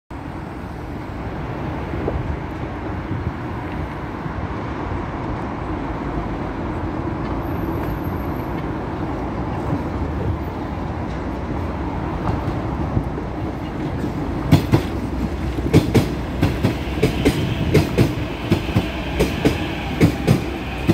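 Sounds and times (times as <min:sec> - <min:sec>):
metro train approaching: 0:00.1 - 0:20.9
road traffic rumble: 0:00.1 - 0:20.9.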